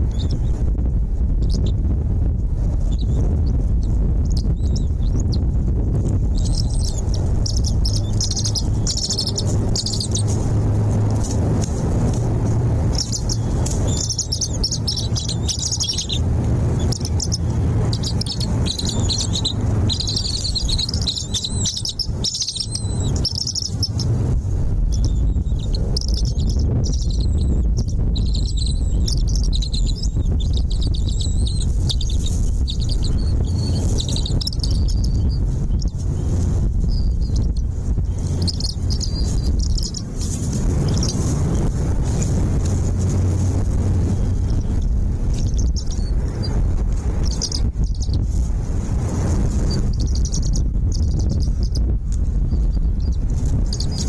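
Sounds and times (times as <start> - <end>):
low rumble: 0.0 - 54.0
small birds twittering: 2.8 - 5.5, 6.2 - 24.2, 24.8 - 48.2, 49.6 - 51.9, 52.6 - 54.0.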